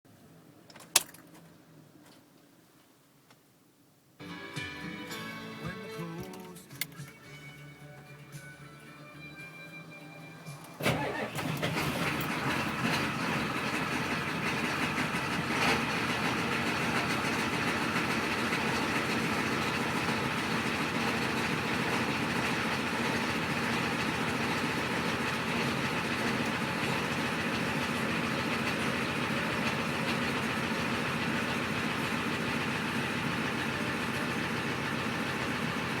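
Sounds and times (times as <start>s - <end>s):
diesel engine starting and idling: 4.2s - 36.0s.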